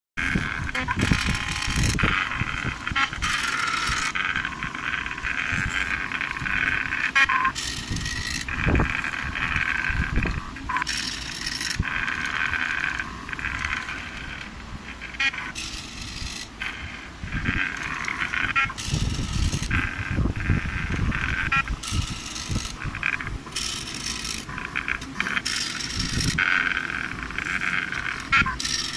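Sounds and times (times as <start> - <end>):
cnc machine motors whining: 0.2 - 28.9.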